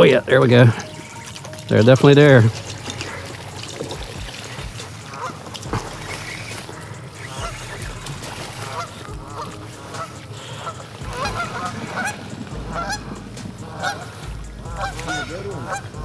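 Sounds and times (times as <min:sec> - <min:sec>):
geese honking: 0:00.0 - 0:16.0.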